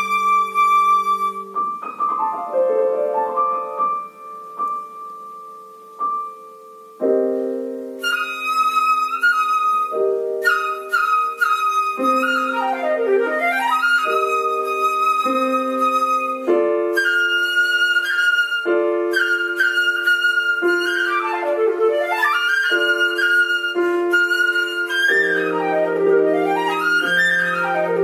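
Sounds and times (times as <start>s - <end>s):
flute melody: 0.0s - 28.0s
piano playing: 0.0s - 28.0s.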